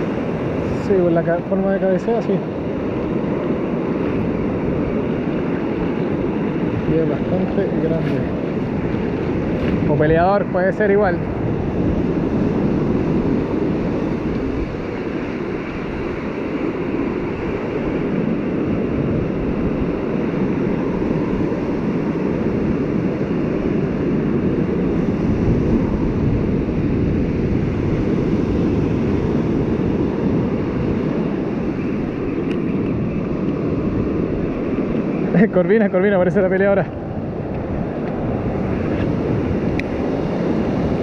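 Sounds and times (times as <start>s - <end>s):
surf washing up beach: 0.0s - 41.0s
wind buffeting microphone: 0.0s - 41.0s.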